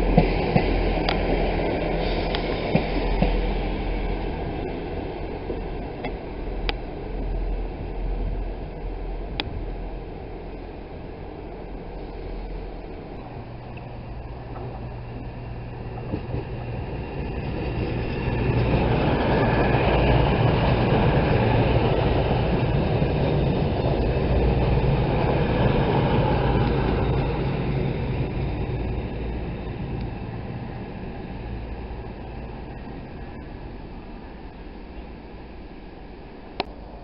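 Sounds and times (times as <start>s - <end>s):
diesel train engines humming: 0.0s - 37.0s
train wheels rumbling on rail: 0.0s - 37.0s.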